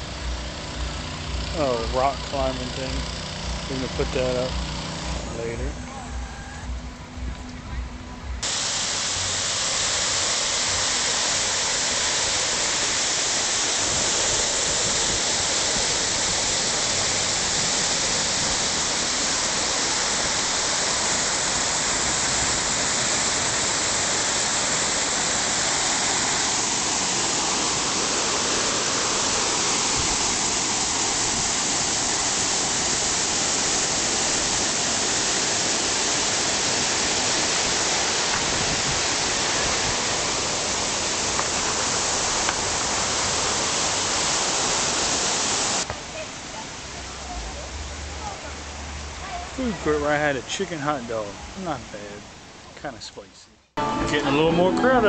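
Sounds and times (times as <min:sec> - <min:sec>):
rushing water: 0:00.0 - 0:07.3, 0:08.2 - 0:53.0.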